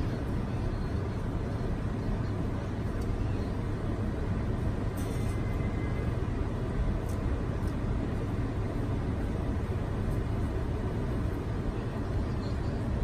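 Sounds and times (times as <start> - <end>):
machine rumble with hiss: 0.0 - 13.0.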